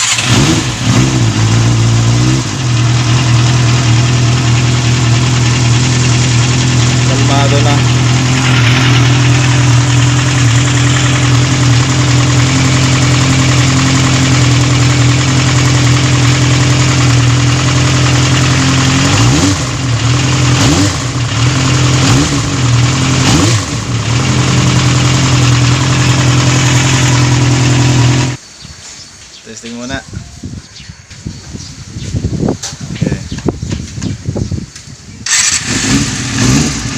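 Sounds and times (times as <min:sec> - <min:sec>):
motorcycle engine idling and revving: 0:00.0 - 0:28.4, 0:31.5 - 0:36.9.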